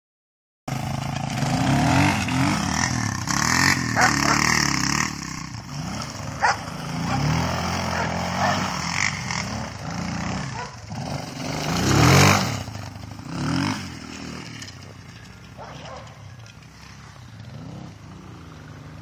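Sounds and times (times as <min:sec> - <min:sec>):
dirt bike engine revving: 0:00.7 - 0:19.0.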